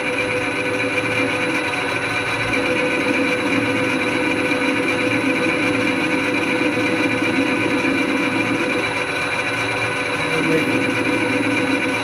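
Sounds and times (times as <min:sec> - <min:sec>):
metal lathe whining: 0:00.0 - 0:12.0.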